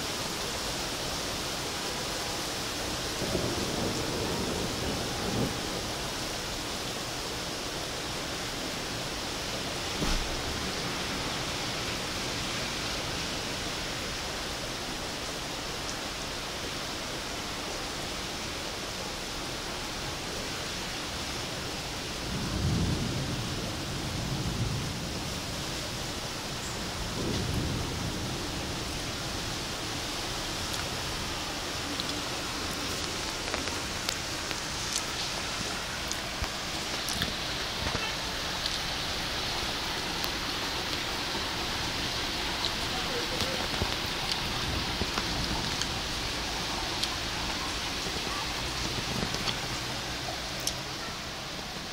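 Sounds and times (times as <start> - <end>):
heavy rain hissing: 0.0 - 51.9
thunder rumbling: 2.8 - 7.2, 8.2 - 15.2, 21.6 - 51.9.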